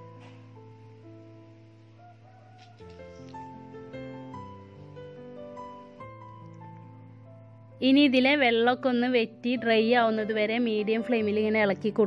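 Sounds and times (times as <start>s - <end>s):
quiet instrumental music: 0.0s - 12.0s.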